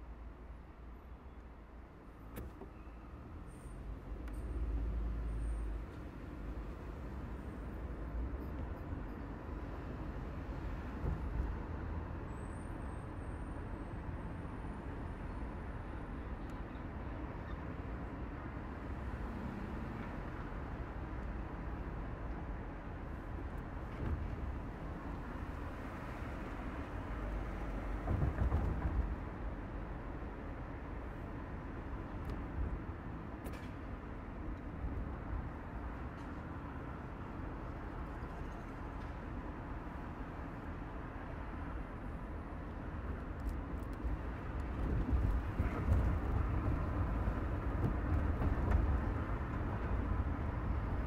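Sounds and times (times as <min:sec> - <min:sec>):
street traffic: 0:00.0 - 0:51.0.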